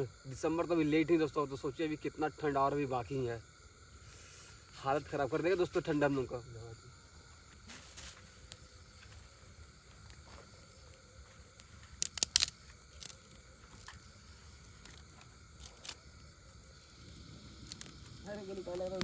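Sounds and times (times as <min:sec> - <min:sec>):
campfire wood crackling: 0:00.0 - 0:19.0
fire pops: 0:00.0 - 0:19.0
insects chirping: 0:00.0 - 0:19.0.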